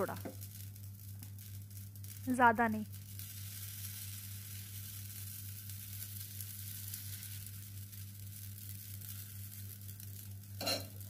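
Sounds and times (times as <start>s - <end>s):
batter sizzling on griddle: 0.0s - 11.0s.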